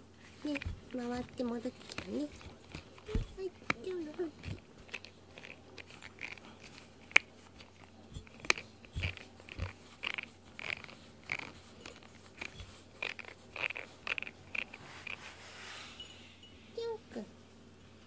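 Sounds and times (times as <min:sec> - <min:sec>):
cat gnawing on brush: 0:00.1 - 0:16.0.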